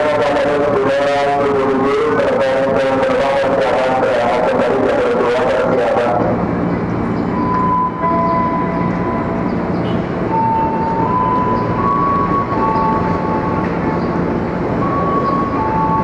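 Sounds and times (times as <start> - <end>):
electric train humming: 0.0 - 16.0
whining tones shifting in pitch: 0.0 - 16.0.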